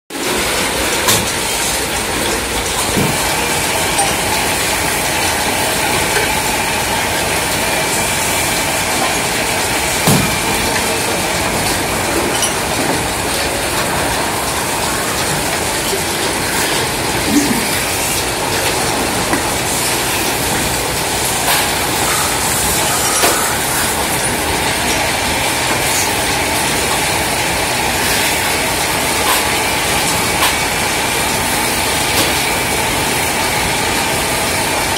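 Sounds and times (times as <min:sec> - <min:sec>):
lathes mechanical clatter: 0:00.2 - 0:34.9.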